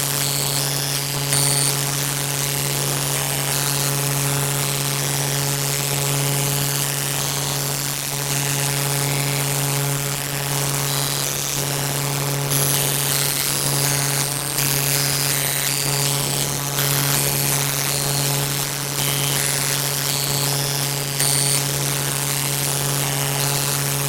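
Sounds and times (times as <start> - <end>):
loud droning hum: 0.0 - 24.0.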